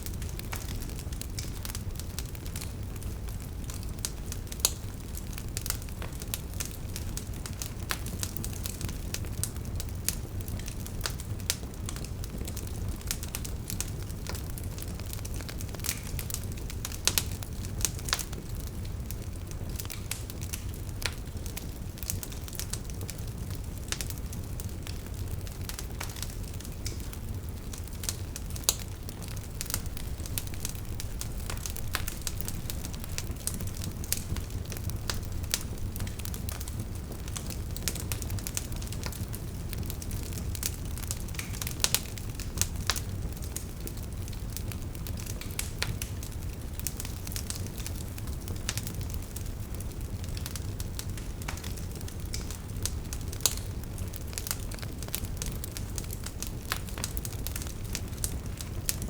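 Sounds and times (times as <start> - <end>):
burning logs crackling: 0.0 - 59.0.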